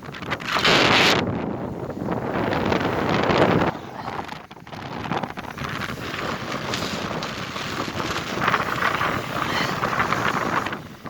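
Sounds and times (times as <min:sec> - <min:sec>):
blizzard wind on microphone: 0:00.0 - 0:11.0.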